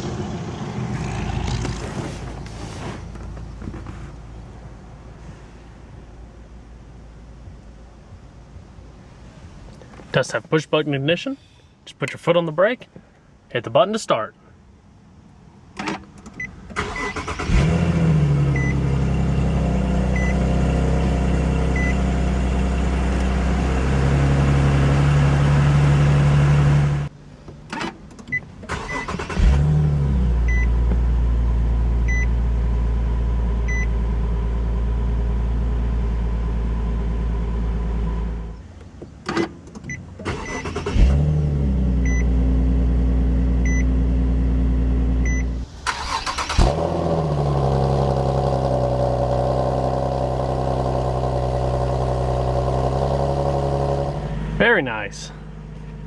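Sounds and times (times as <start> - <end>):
car engine starting and idling: 0.0 - 10.0, 15.6 - 56.0.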